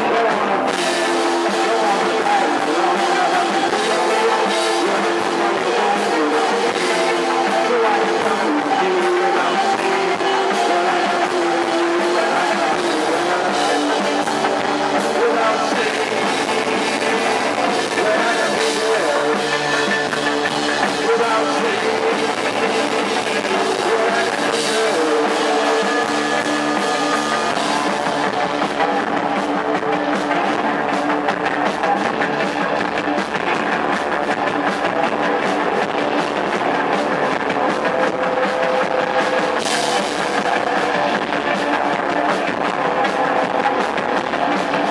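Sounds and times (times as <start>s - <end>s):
band playing live: 0.0s - 44.9s
person singing: 0.0s - 44.9s.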